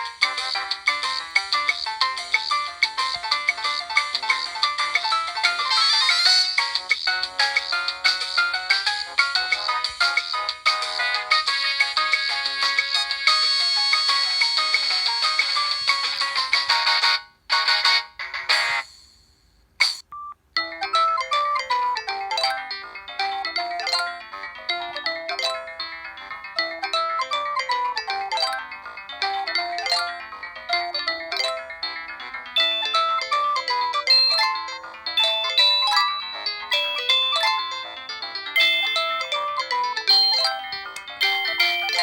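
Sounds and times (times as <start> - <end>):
synthesized ringtone melody: 0.0 - 18.8, 20.2 - 42.0.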